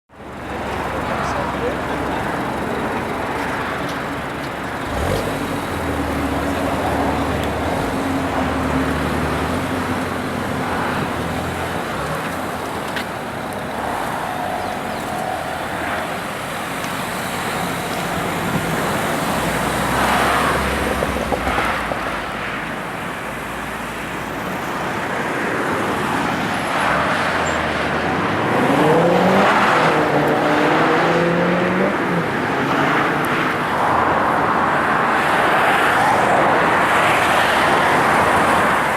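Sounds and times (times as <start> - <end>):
road traffic: 0.1 - 38.9
car engine revving: 0.2 - 22.8, 26.0 - 38.9.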